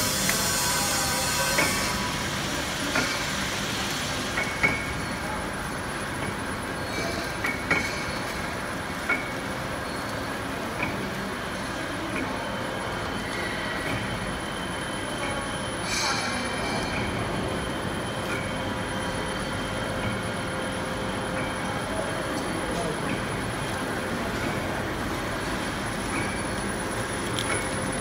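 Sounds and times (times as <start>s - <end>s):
machine clatter and whir: 0.0s - 28.0s.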